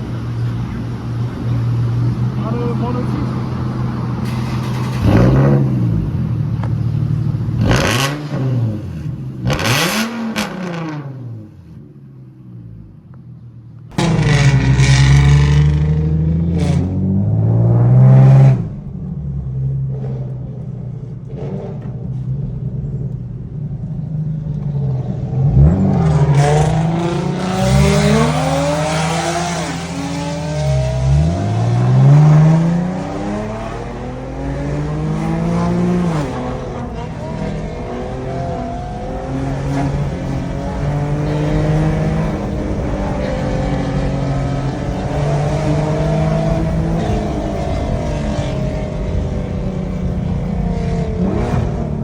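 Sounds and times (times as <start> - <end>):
car engine revving: 0.0 - 11.7, 13.9 - 52.0.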